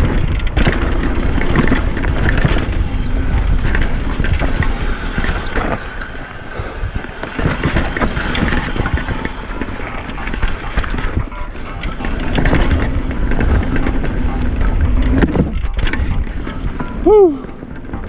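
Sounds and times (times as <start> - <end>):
bike rattling and knocking: 0.0 - 18.0
tyre noise on dirt: 0.0 - 18.0
wind buffeting microphone: 0.0 - 18.0.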